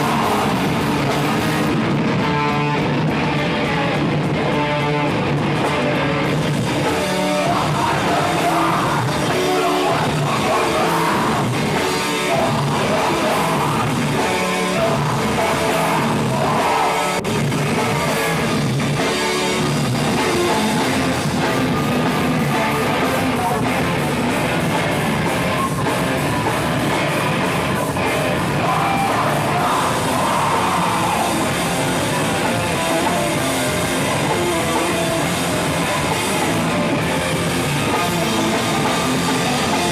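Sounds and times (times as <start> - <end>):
person singing: 0.0 - 2.8, 5.9 - 39.9
live rock band playing: 0.0 - 39.9.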